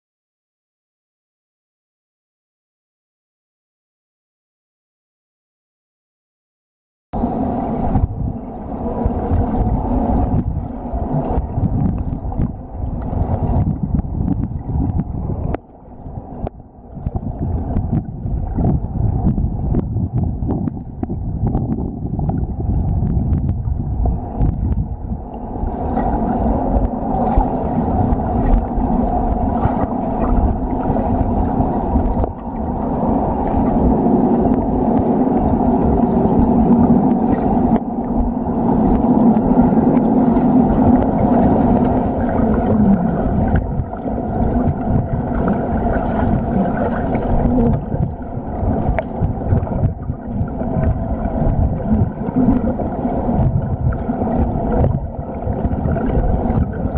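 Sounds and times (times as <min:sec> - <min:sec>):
steady droning hum: 0:07.2 - 0:56.9
underwater churning water: 0:07.2 - 0:56.9.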